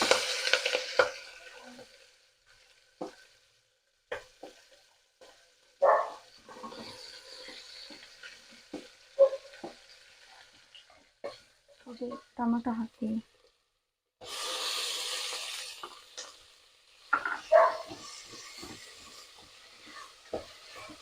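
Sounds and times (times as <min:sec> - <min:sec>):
onion frying in a pan: 0:00.0 - 0:21.0.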